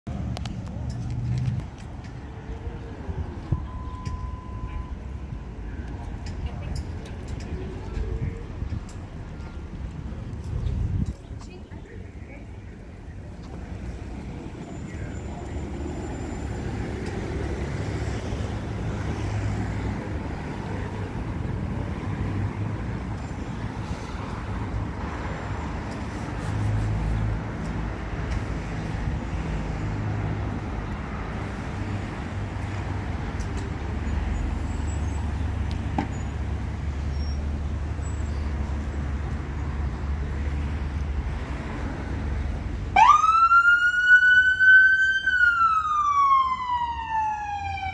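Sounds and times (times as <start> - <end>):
street traffic: 0.0 - 47.9.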